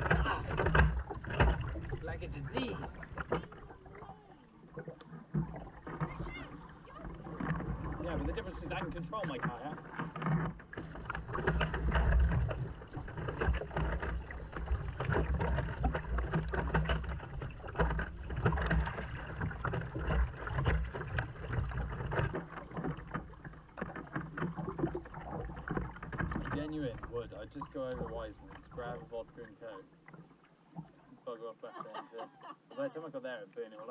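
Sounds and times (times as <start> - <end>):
paddle splashing in water: 0.0 - 32.2
water lapping on kayak hull: 0.0 - 33.9.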